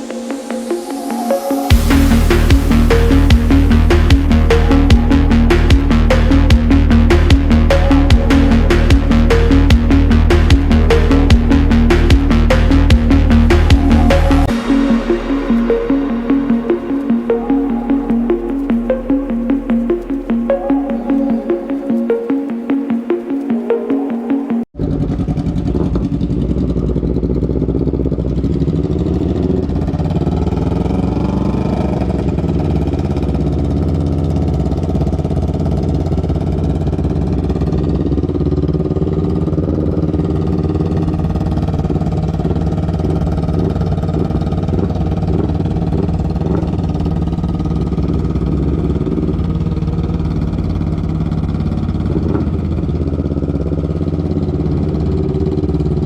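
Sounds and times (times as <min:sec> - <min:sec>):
motorcycle engine running: 0:01.7 - 0:22.1, 0:24.8 - 0:56.0.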